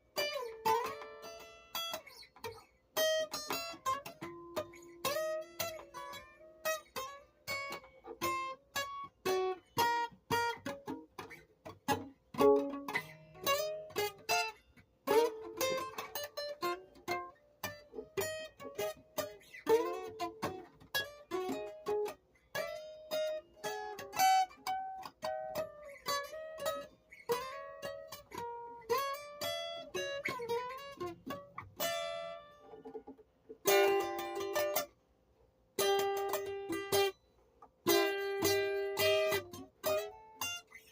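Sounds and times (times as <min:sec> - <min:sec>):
plucked guitar notes: 0:00.0 - 0:34.9, 0:35.8 - 0:40.9.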